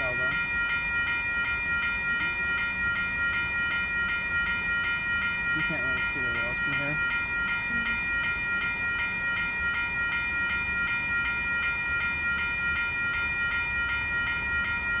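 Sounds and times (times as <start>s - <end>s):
railroad crossing bell ringing: 0.0s - 15.0s.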